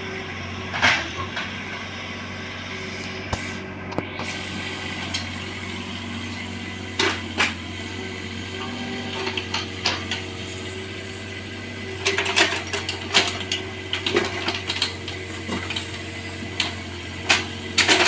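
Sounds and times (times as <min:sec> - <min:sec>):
mini excavator engine running: 0:00.0 - 0:18.0.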